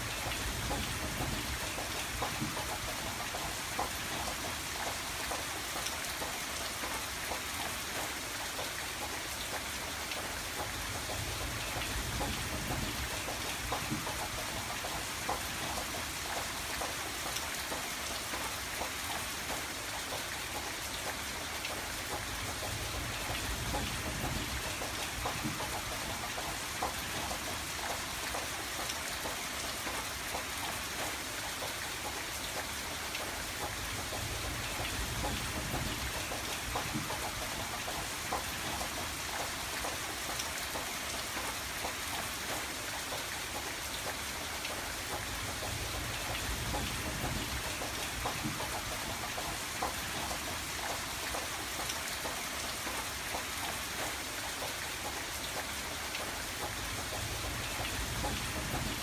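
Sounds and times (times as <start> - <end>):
rain ticking on window glass: 0.0 - 59.0.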